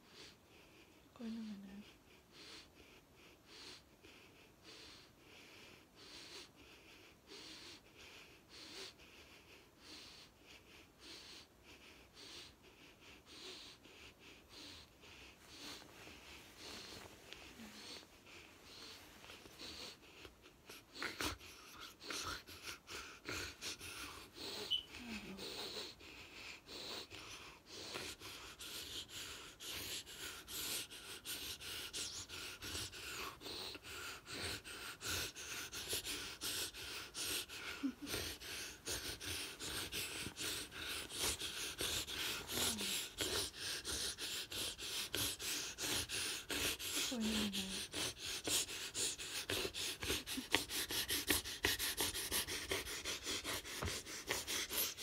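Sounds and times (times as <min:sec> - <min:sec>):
woman breathing heavily: 0:00.0 - 0:55.0.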